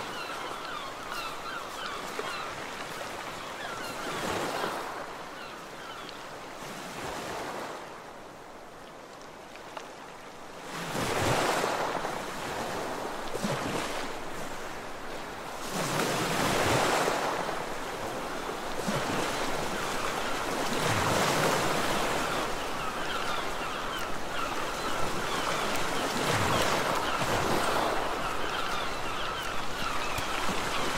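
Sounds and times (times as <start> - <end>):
waves breaking: 0.0 - 30.9.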